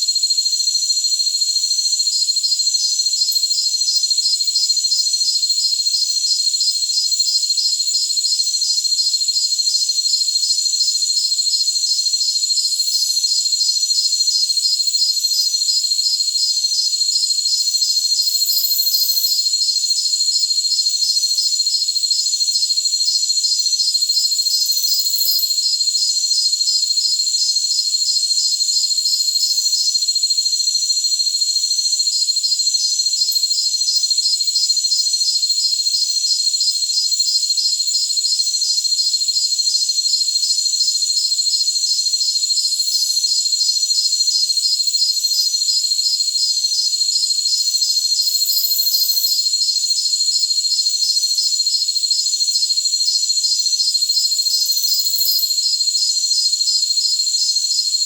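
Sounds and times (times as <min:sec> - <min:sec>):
high-pitched cricket trill: 0:00.0 - 0:58.0
pulsed cricket chirping: 0:00.2 - 0:58.0.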